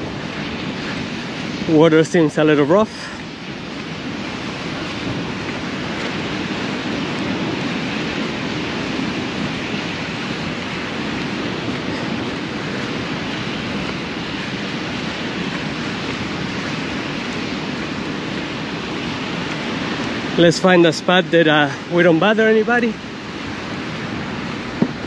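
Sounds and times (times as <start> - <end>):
ocean surf breaking: 0.0 - 25.0
wind on microphone: 0.0 - 25.0.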